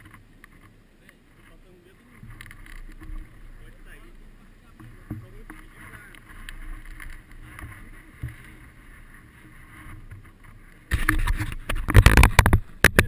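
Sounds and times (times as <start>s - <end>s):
buffeting and rustling bursts: 0.0s - 13.0s
wind rumbling on microphone: 0.0s - 13.0s.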